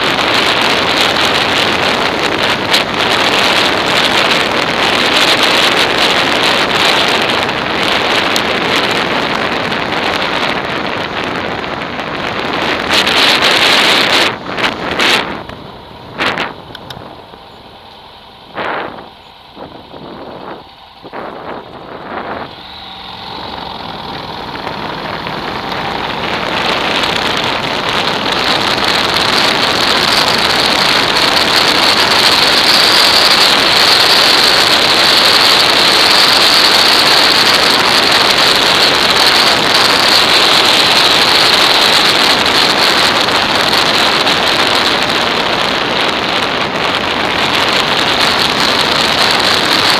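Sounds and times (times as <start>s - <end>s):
wind noise on microphone: 0.0s - 49.9s.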